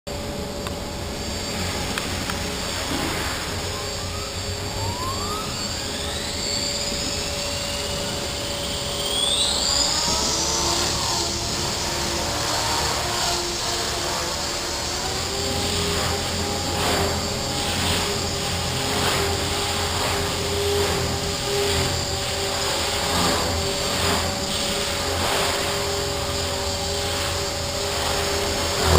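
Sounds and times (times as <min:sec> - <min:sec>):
rc helicopter motor whine: 0:00.1 - 0:28.9.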